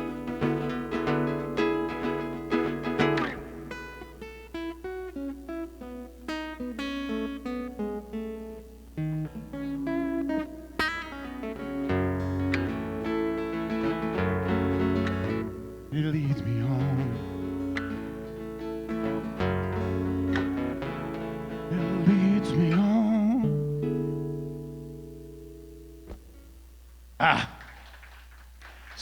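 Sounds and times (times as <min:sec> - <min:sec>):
amplified acoustic guitar picking: 0:00.0 - 0:26.7.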